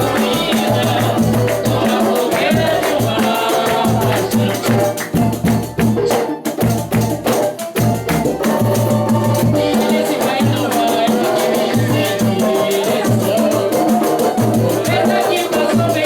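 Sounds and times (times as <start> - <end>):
hand percussion and shakers: 0.0 - 16.0
samba band playing: 0.0 - 16.0.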